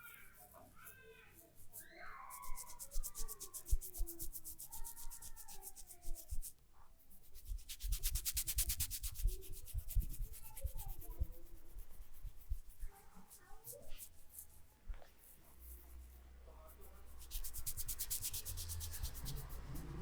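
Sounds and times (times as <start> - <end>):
hands rubbing over skin: 1.6 - 20.0.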